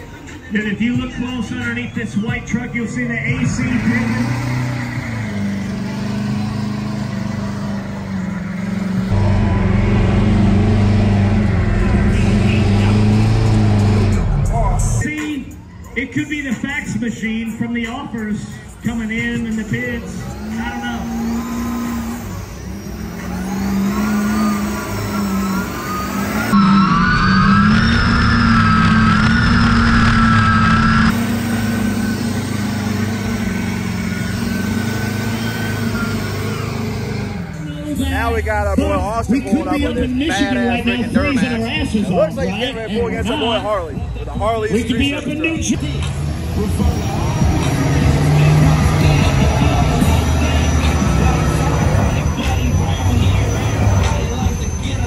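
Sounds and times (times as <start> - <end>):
truck engine running: 0.0 - 55.0.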